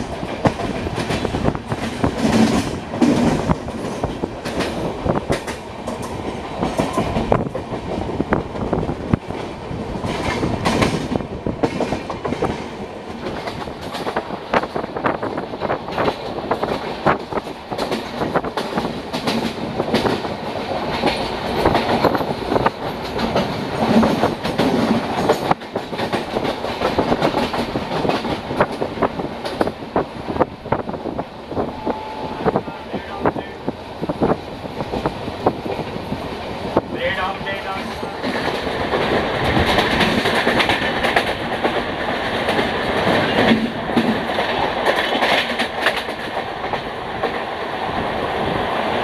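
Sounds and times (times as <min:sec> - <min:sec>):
train rumble: 0:00.0 - 0:49.0
train wheels clattering on rails: 0:00.0 - 0:49.0.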